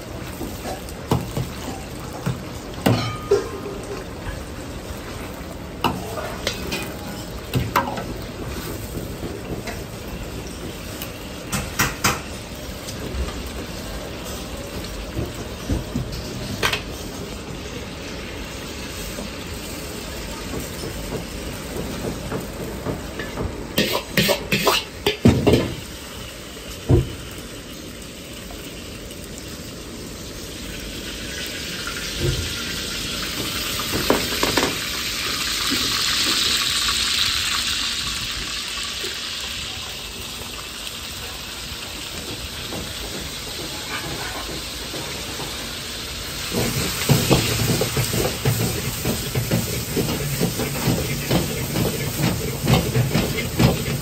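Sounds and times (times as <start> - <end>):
hiss of heating wok: 0.0 - 54.0
pork sizzling in a wok: 0.0 - 54.0.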